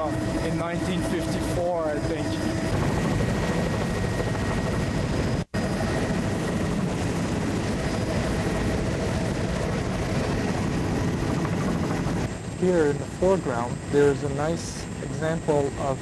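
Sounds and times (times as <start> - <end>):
aircraft engine drone in cabin: 0.0 - 16.0
faint whining tones: 0.0 - 16.0.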